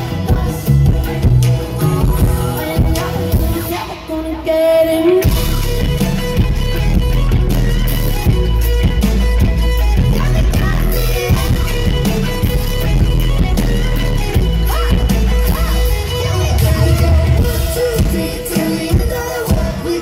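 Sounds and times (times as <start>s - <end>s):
person singing: 0.0s - 7.6s, 10.0s - 20.0s
loud electropop band music: 0.0s - 20.0s.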